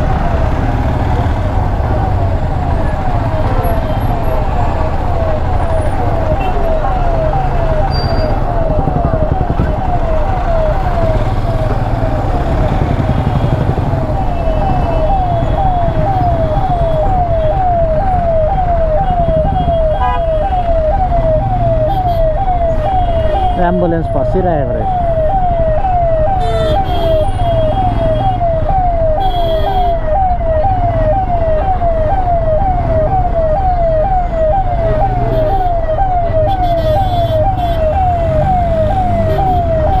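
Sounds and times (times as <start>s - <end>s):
ambulance siren: 0.0s - 40.0s
engines rumbling in traffic: 0.0s - 40.0s.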